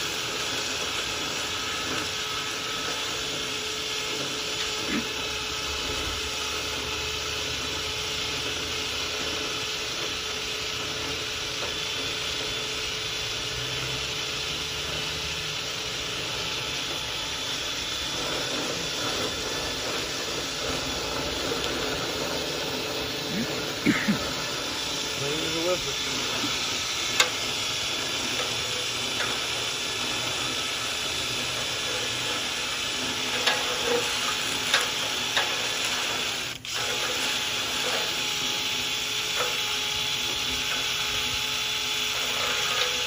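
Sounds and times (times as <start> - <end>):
vent cleaning motor with rushing air: 0.0 - 43.0.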